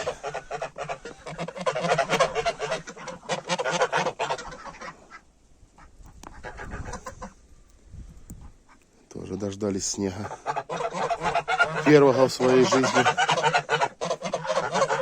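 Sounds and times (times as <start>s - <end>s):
geese honking and cackling: 0.0s - 7.5s, 9.8s - 15.0s.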